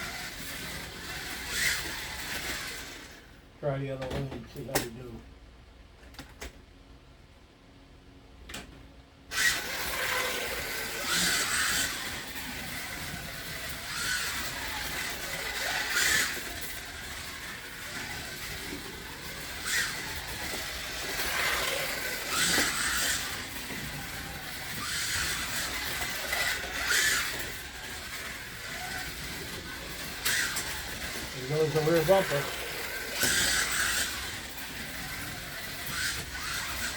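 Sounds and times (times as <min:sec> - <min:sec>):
electric motor whine: 0:00.0 - 0:03.3, 0:09.3 - 0:36.9.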